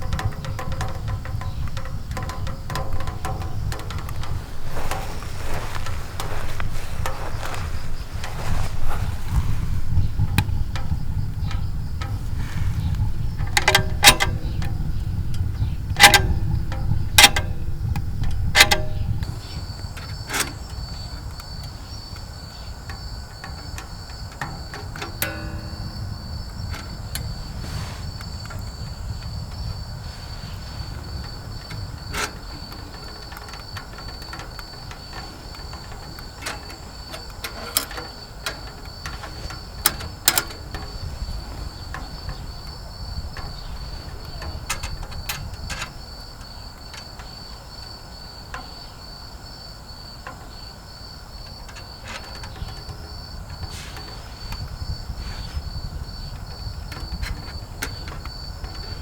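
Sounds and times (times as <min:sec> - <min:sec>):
high insect trill: 0:00.0 - 0:59.0
wood crackling and popping in stove: 0:00.0 - 0:59.0.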